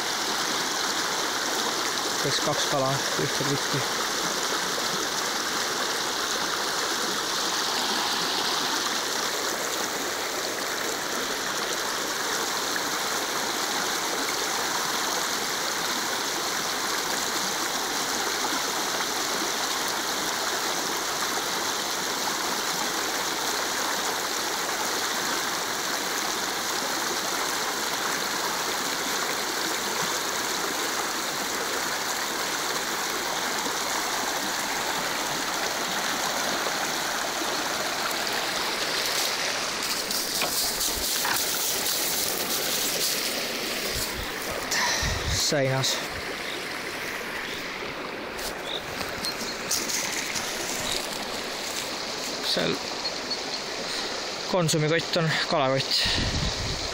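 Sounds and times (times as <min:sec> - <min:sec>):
river water rushing and rippling: 0:00.0 - 0:56.9.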